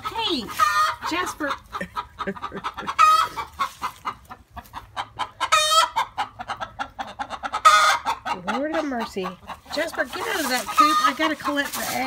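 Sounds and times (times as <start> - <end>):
hens clucking rapidly: 0.0 - 12.0.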